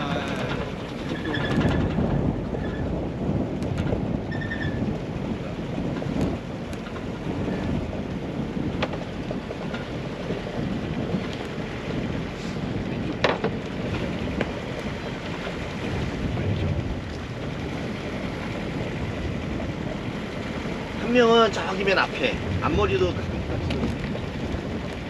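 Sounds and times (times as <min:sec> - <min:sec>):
water sloshing against hull: 0:00.0 - 0:25.0
wind buffeting microphone: 0:00.0 - 0:25.0.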